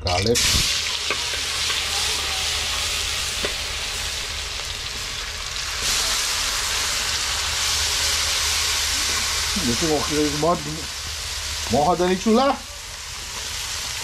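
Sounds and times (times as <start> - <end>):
vegetables sizzling in oil: 0.1 - 14.0.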